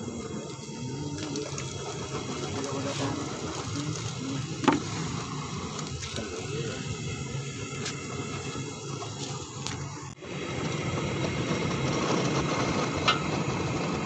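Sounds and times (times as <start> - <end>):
gas burner rushing: 0.0 - 14.0.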